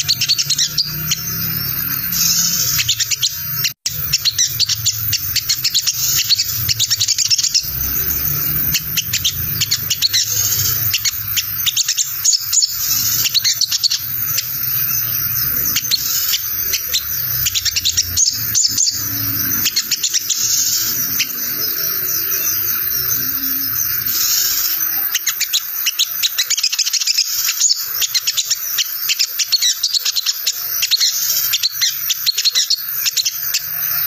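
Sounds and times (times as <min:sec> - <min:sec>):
bird rapid scratchy chatter: 0:00.0 - 0:34.0.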